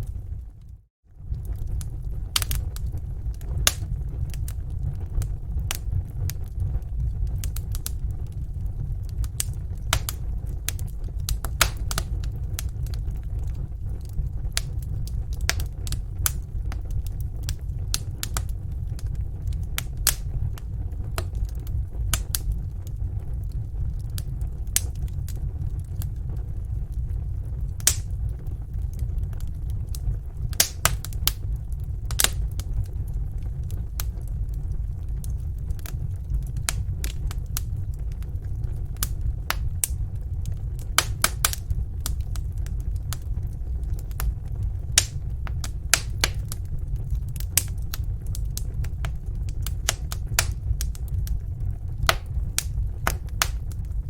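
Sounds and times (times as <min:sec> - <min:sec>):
logs popping and crackling: 0:00.0 - 0:54.0
low rumble of flames: 0:00.0 - 0:54.0.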